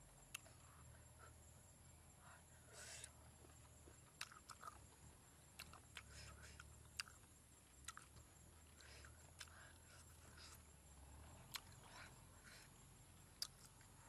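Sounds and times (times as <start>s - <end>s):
soft wet chewing: 2.2s - 14.0s.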